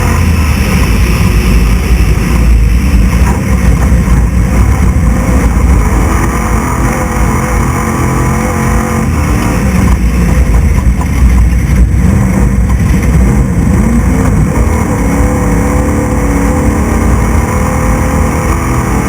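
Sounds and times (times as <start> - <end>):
road and wind noise: 0.0 - 19.0
truck engine running hard: 0.0 - 19.0.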